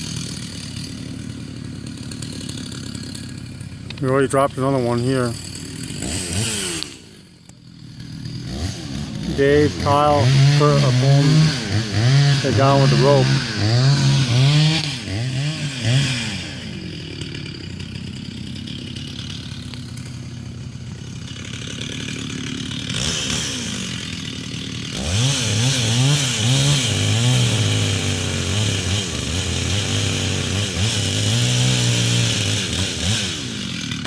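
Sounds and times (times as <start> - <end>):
chainsaw revving and cutting wood: 0.0 - 34.0.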